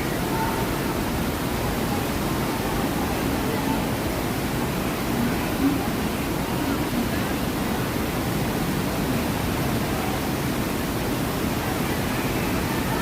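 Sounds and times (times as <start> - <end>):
rushing water of rapids: 0.0 - 13.0.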